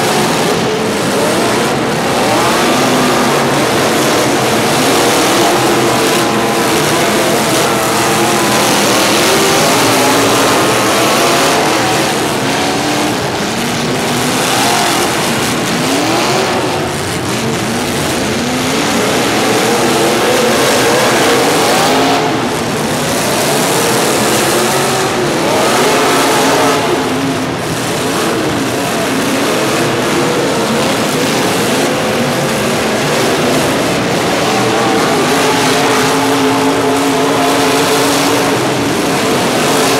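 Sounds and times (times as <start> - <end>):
steady loud rushing noise: 0.0 - 39.9
vehicle engines revving: 0.0 - 39.9.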